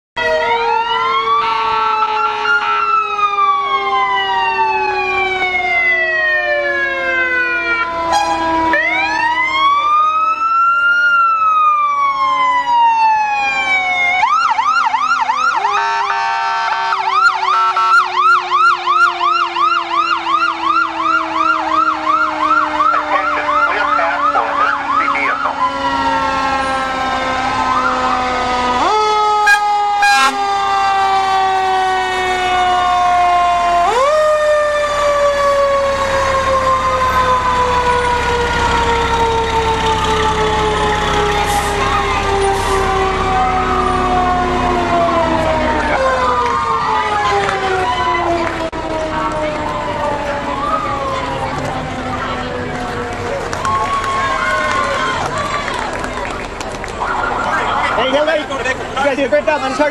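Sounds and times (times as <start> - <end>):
fast yelping siren: 0.2 - 56.2, 56.9 - 58.7
sirens wailing: 0.2 - 59.9.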